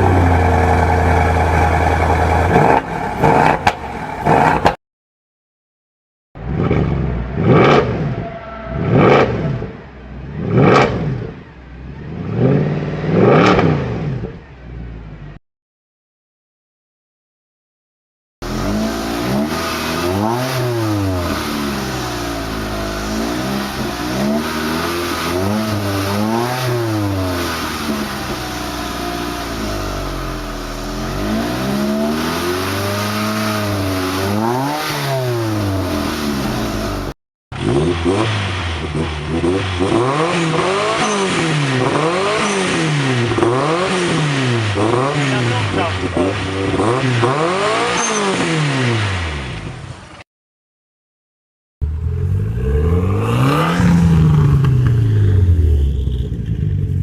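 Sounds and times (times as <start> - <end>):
car engine sharp revs: 0.0 - 4.8, 6.4 - 14.5, 18.4 - 50.2, 51.8 - 57.0
sports car engine revving: 0.0 - 4.8, 6.4 - 14.5, 18.4 - 49.7, 51.8 - 57.0.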